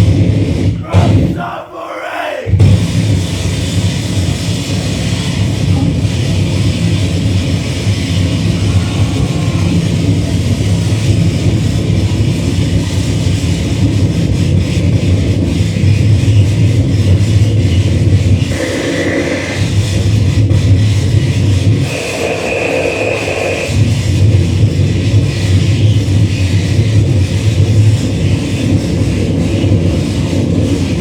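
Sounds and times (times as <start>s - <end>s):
dense wall of distorted noise: 0.0s - 31.0s.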